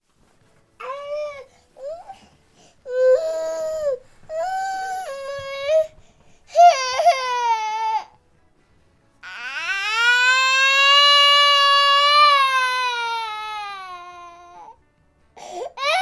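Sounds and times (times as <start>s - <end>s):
infant crying: 0.8s - 8.2s, 9.2s - 14.8s, 15.4s - 16.0s.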